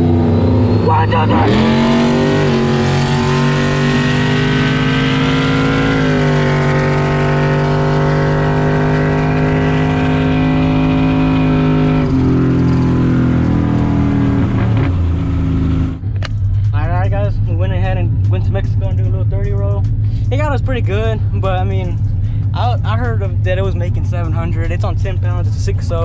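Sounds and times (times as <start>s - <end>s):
truck engine at full throttle: 0.0s - 26.0s.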